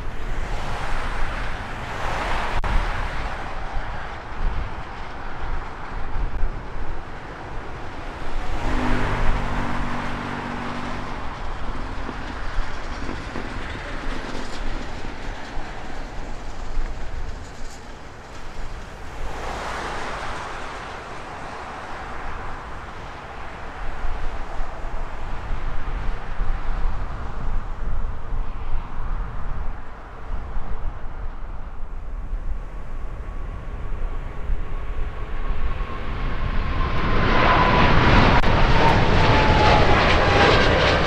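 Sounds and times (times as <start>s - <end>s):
jet engines roaring: 0.0s - 30.4s, 32.2s - 41.0s.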